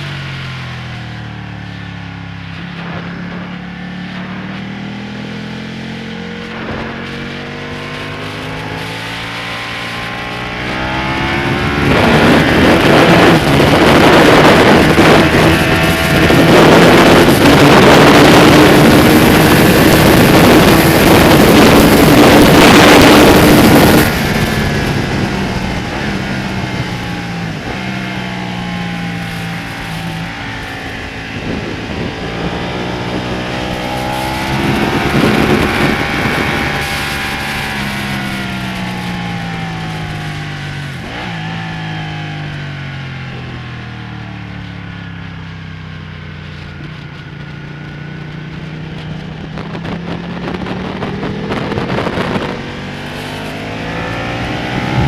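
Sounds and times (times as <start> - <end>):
motorcycle engine revving: 0.0 - 55.0
rush of wind noise: 0.0 - 55.0.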